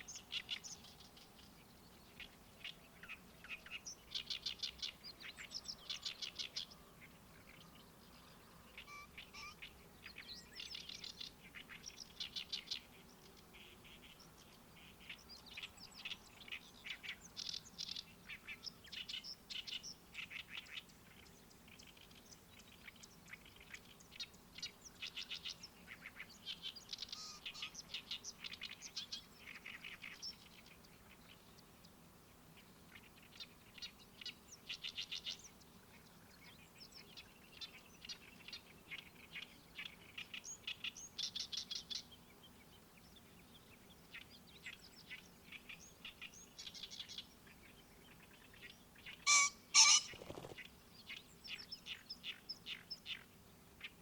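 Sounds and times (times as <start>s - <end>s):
songbirds chattering: 0.0s - 54.0s.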